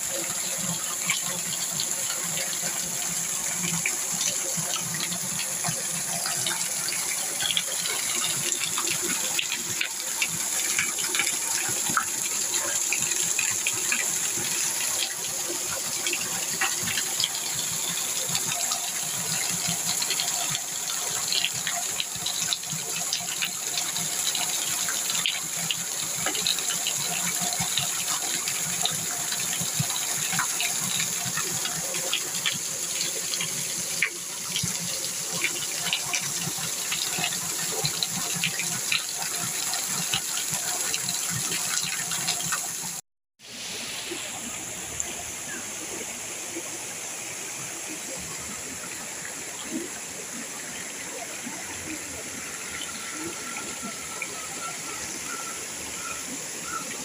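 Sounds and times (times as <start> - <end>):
water rushing and splashing: 0.0 - 57.0.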